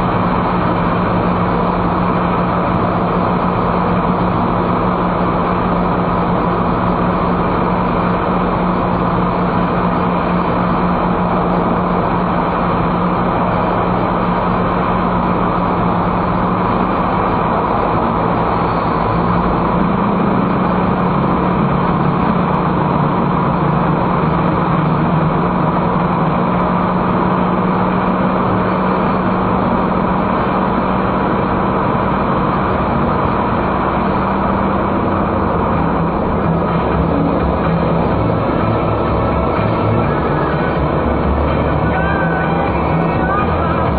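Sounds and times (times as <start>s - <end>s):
car engine and tyre noise: 0.0s - 43.9s
low hum: 0.0s - 43.9s.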